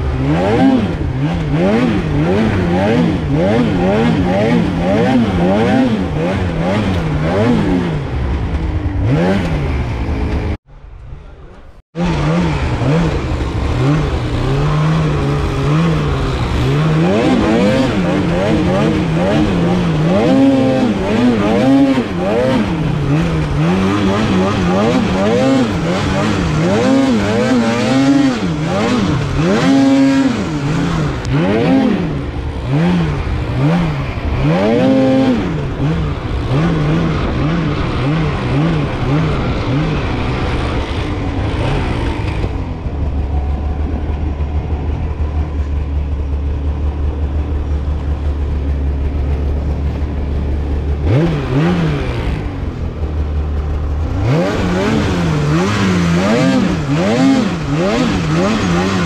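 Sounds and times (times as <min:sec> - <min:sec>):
snowmobile engine revving: 0:00.0 - 0:10.6, 0:12.0 - 0:59.0.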